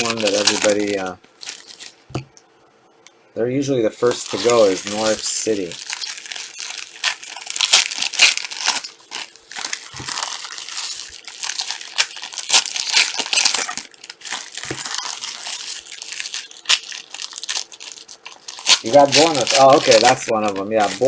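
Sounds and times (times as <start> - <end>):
plastic wrapping crinkling: 0.0 - 2.2, 4.0 - 21.0.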